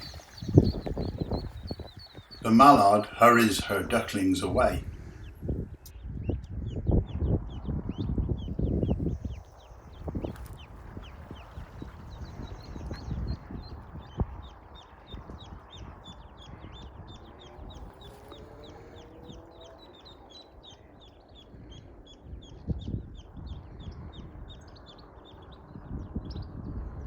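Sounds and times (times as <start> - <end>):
ducklings peeping: 0.0 - 5.4, 6.2 - 26.6.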